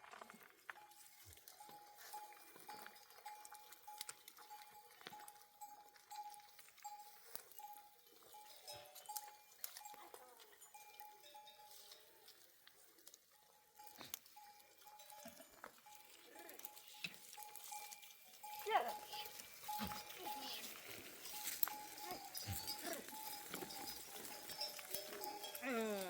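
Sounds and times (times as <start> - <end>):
sheep bells clinking: 0.1 - 26.0.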